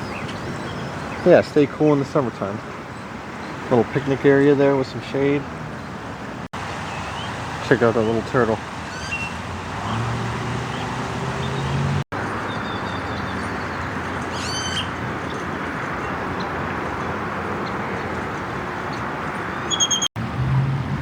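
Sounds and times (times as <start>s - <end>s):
birds chirping: 0.0s - 20.1s.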